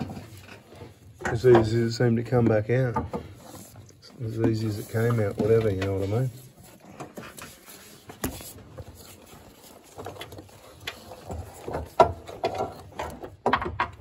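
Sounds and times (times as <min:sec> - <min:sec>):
engine mount knocks and scrapes: 0:00.0 - 0:14.0.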